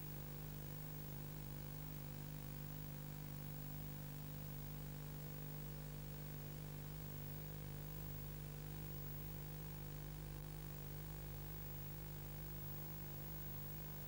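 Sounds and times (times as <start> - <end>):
electrical hum with hiss: 0.0 - 14.0.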